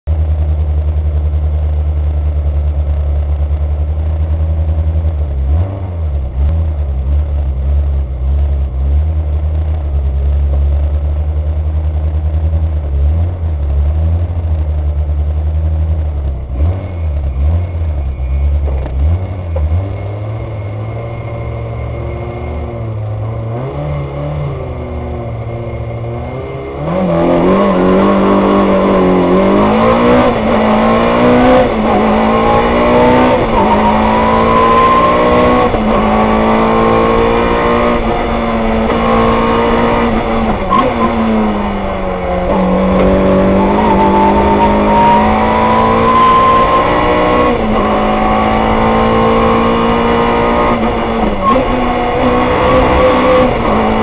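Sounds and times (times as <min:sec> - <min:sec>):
rally car engine revving: 0:01.6 - 0:54.0.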